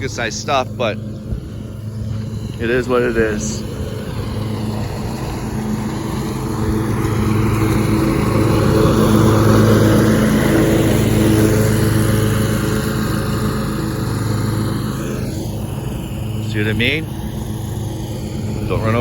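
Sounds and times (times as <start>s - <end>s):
mower engine running: 0.0s - 19.0s.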